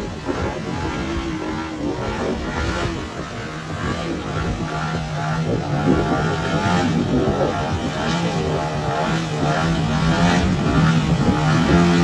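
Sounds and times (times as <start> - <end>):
model plane engine wavering: 0.0 - 12.0.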